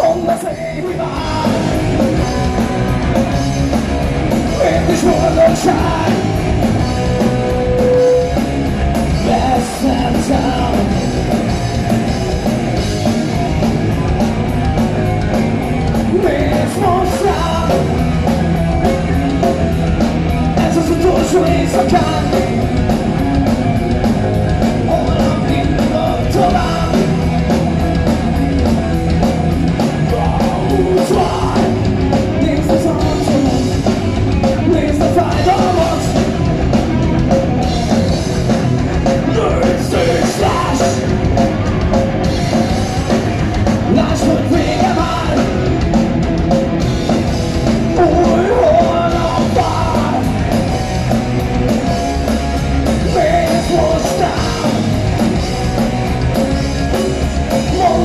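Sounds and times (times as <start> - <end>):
bass guitar: 0.0 - 58.0
drum kit steady beat: 0.0 - 58.0
electric guitar: 0.0 - 58.0.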